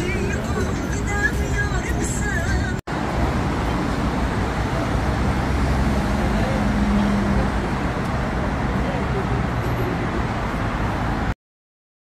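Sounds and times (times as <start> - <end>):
city street traffic: 0.0 - 11.4.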